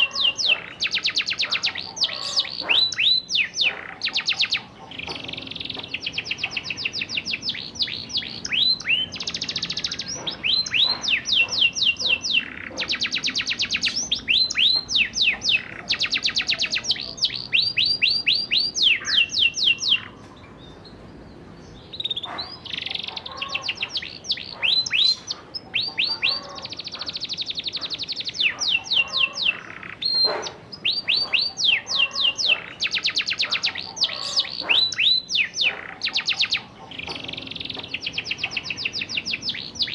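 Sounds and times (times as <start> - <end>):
canary trilling: 0.0 - 39.9.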